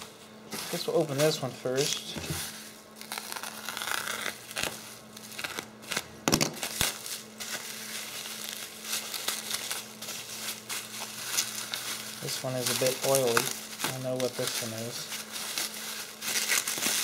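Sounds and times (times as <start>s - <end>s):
bubble wrap crinkling and rustling: 0.0s - 17.0s.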